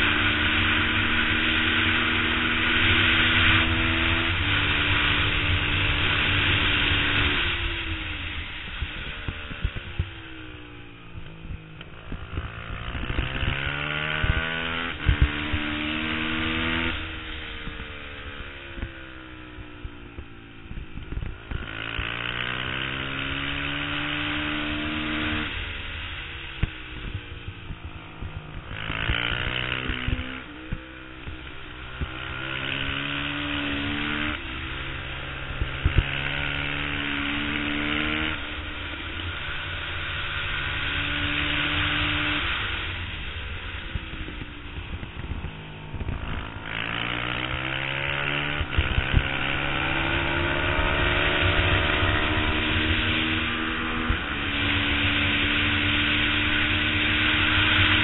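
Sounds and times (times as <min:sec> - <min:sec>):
race motorcycle engine revving: 0:00.0 - 0:58.0
wind rushing over microphone: 0:00.0 - 0:58.0.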